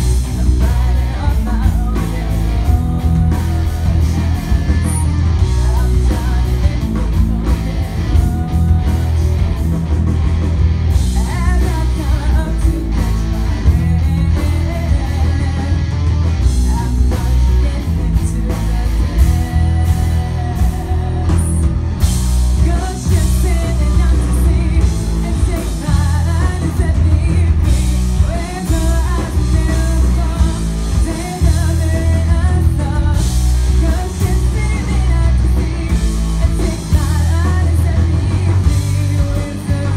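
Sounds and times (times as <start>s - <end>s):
woman singing: 0.0s - 9.7s, 11.0s - 21.7s, 22.6s - 39.9s
live rock band playing: 0.0s - 39.9s.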